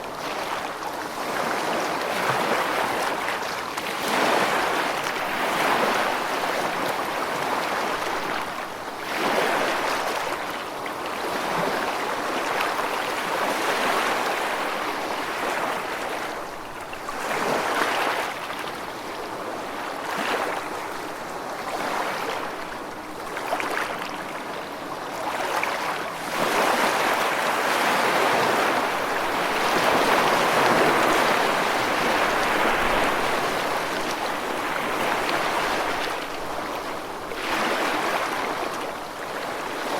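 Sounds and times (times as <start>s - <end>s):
waves lapping on a beach: 0.0s - 39.9s.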